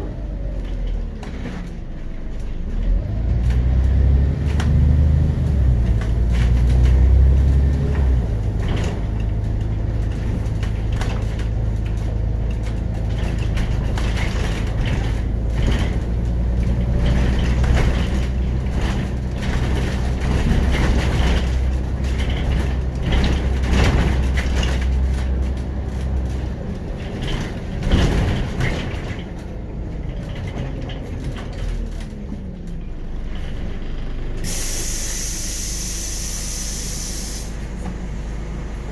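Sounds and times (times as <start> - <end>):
bus body rattles and knocks: 0.0 - 34.4
bus diesel engine running: 0.0 - 38.9.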